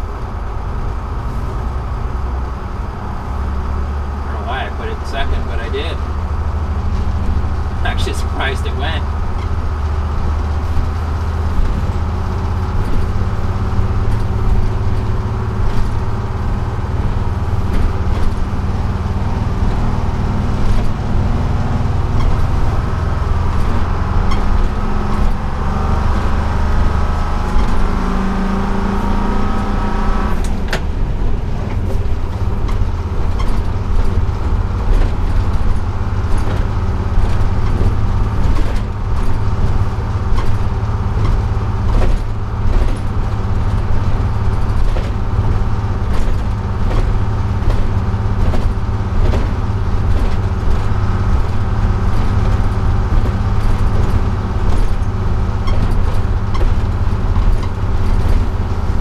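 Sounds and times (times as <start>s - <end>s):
diesel engine deep rumble: 0.0s - 59.0s
road noise: 0.0s - 59.0s.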